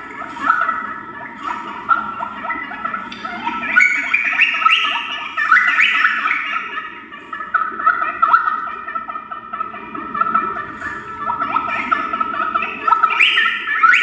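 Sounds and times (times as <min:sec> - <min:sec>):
dolphins whistling and chirping: 0:00.0 - 0:14.0.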